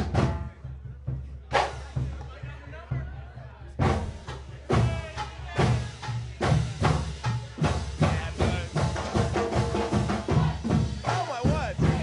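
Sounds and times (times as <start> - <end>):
marching band drum beat: 0.0 - 12.0.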